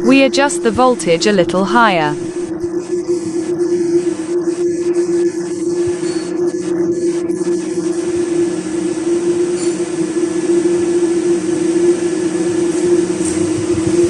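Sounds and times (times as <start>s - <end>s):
mechanical fan hum: 0.0s - 14.0s.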